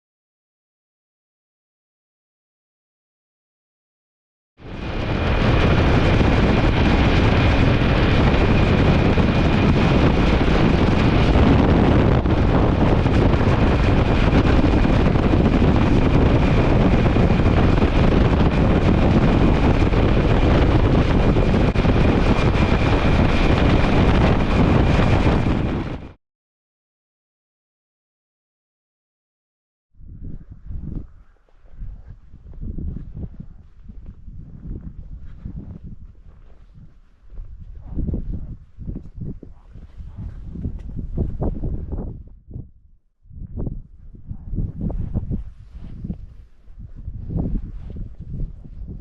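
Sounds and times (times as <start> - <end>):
wind buffeting microphone: 4.6 - 26.2, 30.0 - 49.0.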